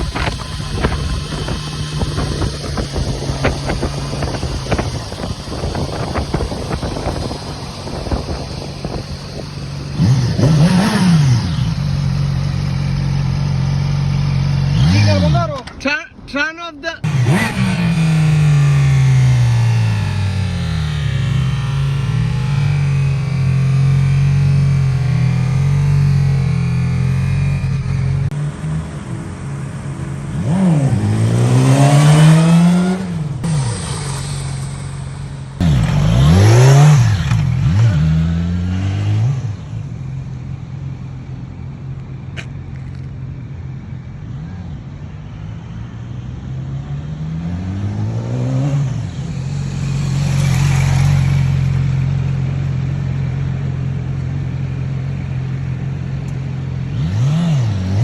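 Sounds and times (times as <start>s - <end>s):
motorcycle engine accelerating: 0.0s - 15.6s, 17.0s - 58.0s.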